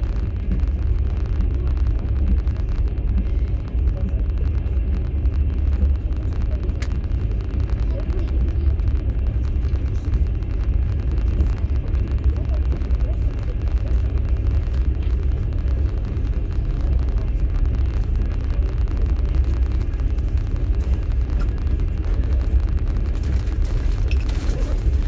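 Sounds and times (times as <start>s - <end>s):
train running gear rumble: 0.0s - 25.0s.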